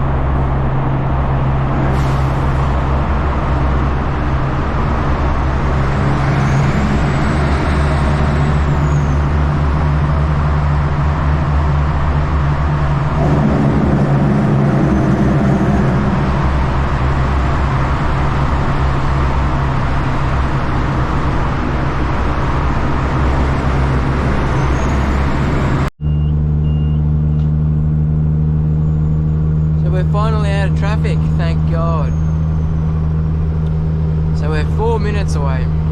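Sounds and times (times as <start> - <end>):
road noise: 0.0 - 35.9
truck diesel engine droning: 0.0 - 35.9.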